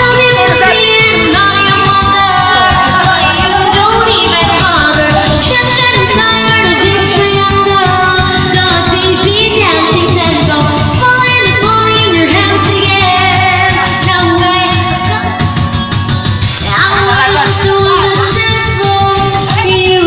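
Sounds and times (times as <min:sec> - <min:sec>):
woman singing: 0:00.0 - 0:15.2, 0:16.6 - 0:20.0
karaoke backing track: 0:00.0 - 0:20.0.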